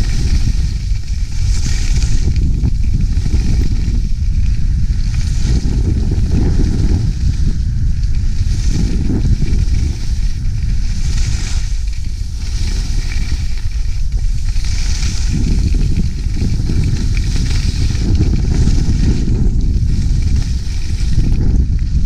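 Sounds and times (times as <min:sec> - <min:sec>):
skis carving on snow: 0:00.0 - 0:22.0
wind rumbling on microphone: 0:00.0 - 0:22.0.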